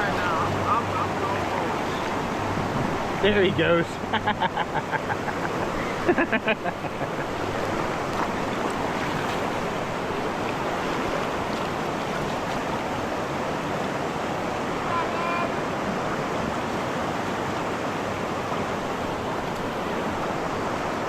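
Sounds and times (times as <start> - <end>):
whitewater rushing in rapids: 0.0 - 21.0.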